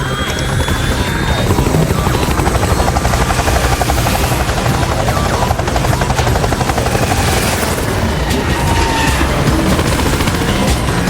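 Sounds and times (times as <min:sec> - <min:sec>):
helicopter engine rumble: 0:00.0 - 0:11.0
helicopter rotor chop: 0:00.0 - 0:11.0.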